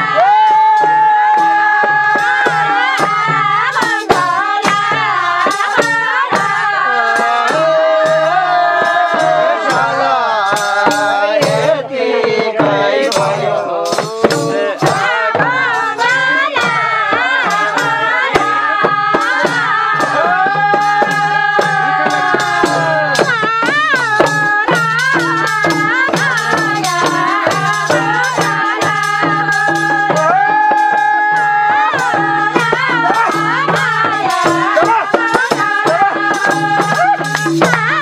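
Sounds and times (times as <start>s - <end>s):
steady percussive beat: 0.0s - 38.0s
women singing folk song: 0.0s - 38.0s.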